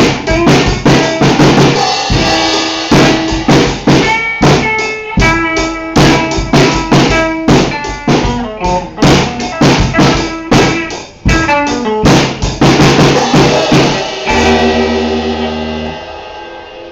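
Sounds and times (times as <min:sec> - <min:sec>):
drum kit: 0:00.0 - 0:16.9
instrumental band playing: 0:00.0 - 0:16.9.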